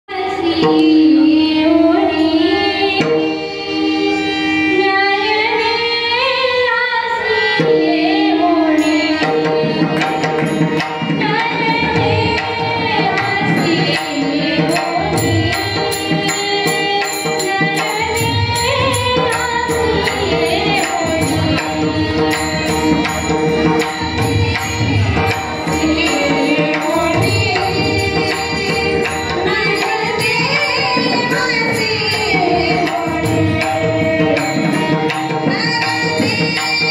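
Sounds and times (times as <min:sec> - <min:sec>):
instrumental accompaniment: 0:00.1 - 0:36.9
percussion steady beat: 0:00.1 - 0:36.9
person singing devotional melody: 0:00.1 - 0:36.9.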